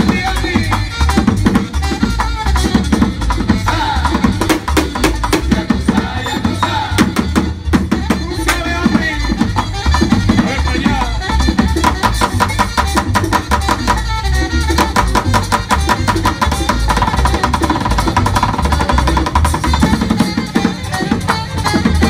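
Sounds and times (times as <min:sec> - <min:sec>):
low bass beat on plastic bucket: 0:00.0 - 0:22.0.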